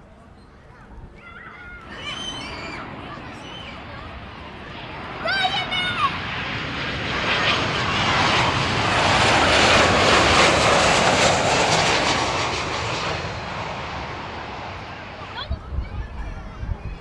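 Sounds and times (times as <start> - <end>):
airliner engine roar overhead: 0.1 - 17.0.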